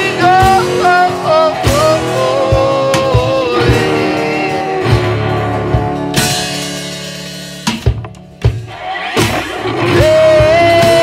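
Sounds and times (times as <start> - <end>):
rock song with singing: 0.0 - 11.0.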